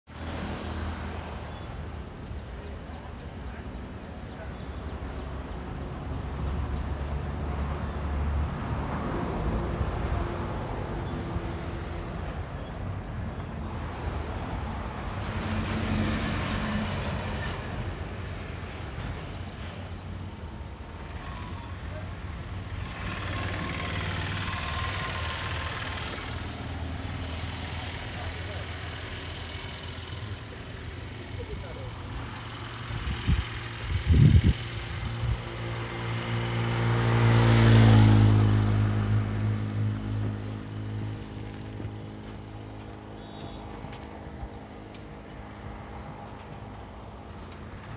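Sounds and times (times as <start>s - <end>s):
low traffic rumble: 0.1s - 47.9s
vehicles passing on road: 0.1s - 47.9s.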